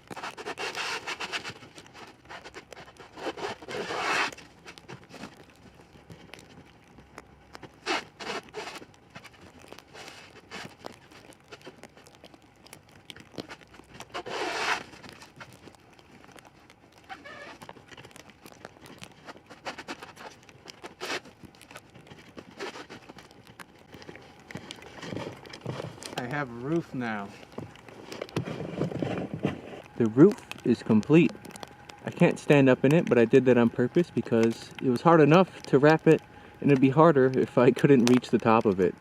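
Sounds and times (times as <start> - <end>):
plastic wrap crackling: 0.0 - 39.0.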